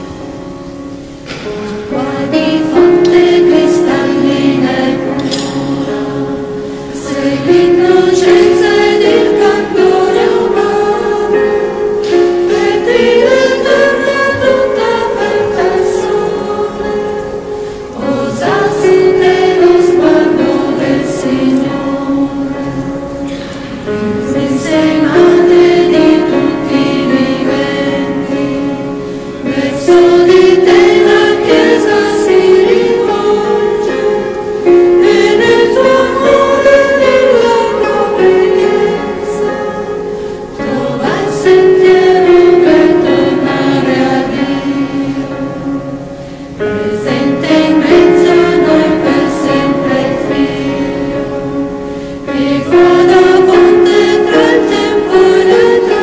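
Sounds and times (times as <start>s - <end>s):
church choir singing a hymn: 0.0s - 56.0s
keyboard accompaniment: 0.0s - 56.0s.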